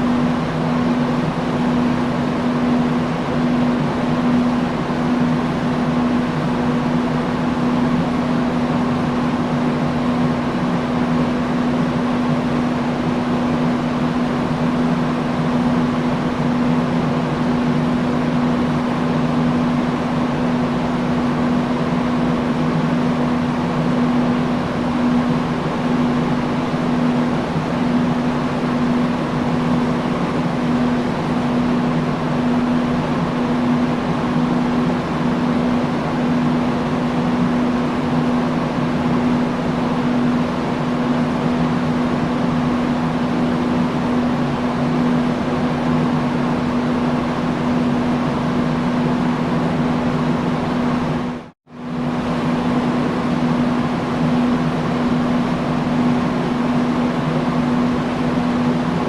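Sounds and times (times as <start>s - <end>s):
industrial fan running: 0.0s - 59.0s.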